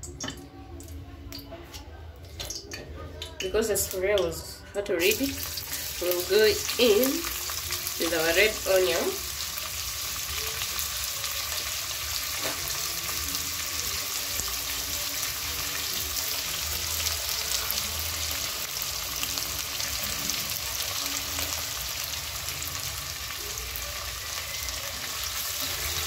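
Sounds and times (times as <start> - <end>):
onion sizzling in hot oil: 4.8 - 26.0.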